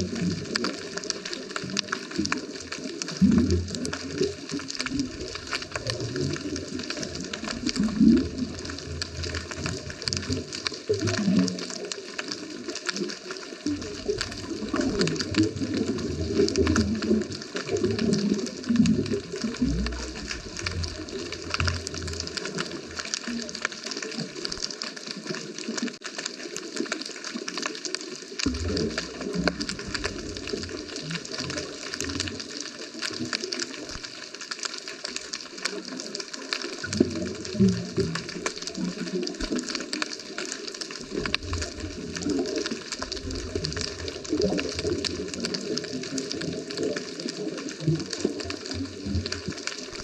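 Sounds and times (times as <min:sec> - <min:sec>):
fine crackle of tiny clicks: 0:00.0 - 0:50.0
underwater air bubbles gurgling: 0:00.0 - 0:50.0.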